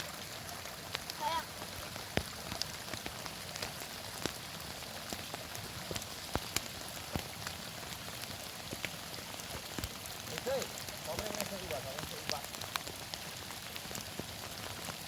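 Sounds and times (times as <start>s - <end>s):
heavy rain hiss: 0.0s - 15.0s
raindrops ticking close by: 0.0s - 15.0s.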